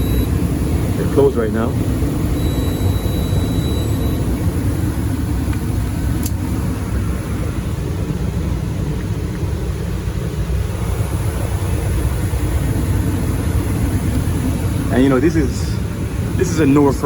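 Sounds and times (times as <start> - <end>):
gas furnace running: 0.0 - 17.0.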